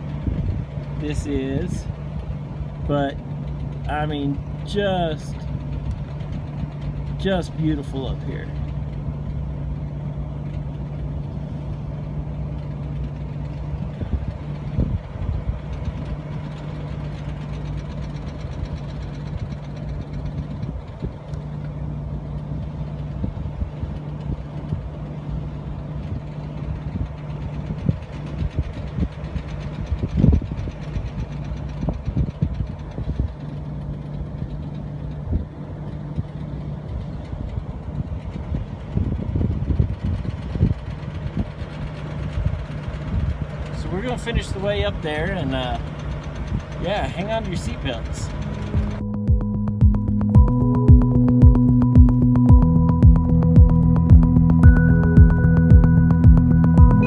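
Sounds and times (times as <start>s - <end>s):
car engine running steadily: 0.0s - 57.0s.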